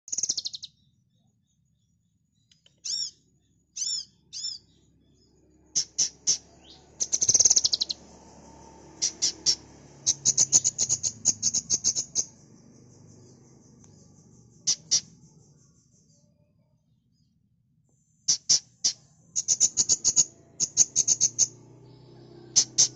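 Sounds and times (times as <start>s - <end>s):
songbird chirping and trilling: 0.0s - 22.9s.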